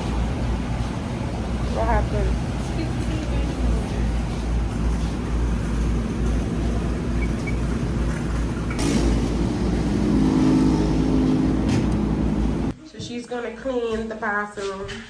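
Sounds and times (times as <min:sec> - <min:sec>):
road and engine noise in car: 0:00.0 - 0:12.8.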